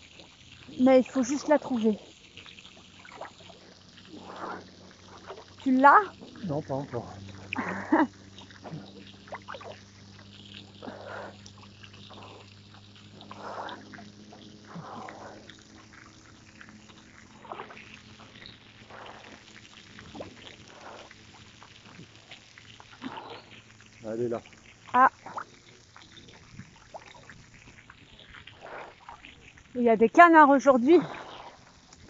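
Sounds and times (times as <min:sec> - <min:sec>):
faint low hum: 0:00.0 - 0:32.0
water splashing from swimming: 0:00.0 - 0:32.0.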